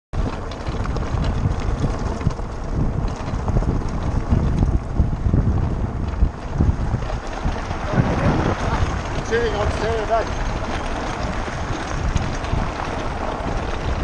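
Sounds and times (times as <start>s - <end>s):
cart knocking and rattling: 0.2s - 14.0s
tyres rumbling on gravel: 0.2s - 14.0s
wind buffeting microphone: 0.2s - 14.0s.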